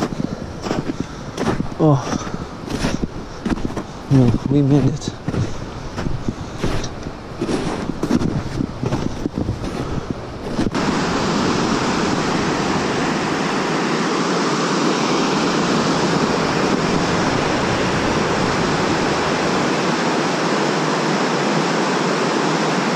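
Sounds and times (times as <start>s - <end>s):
river rapids rushing: 0.0s - 22.9s.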